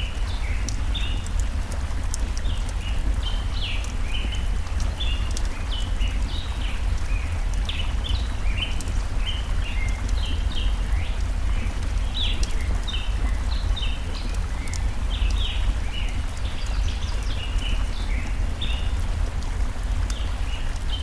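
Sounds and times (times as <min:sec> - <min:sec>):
faint campfire crackles: 0:00.0 - 0:21.0
forest stream rushing: 0:00.0 - 0:21.0.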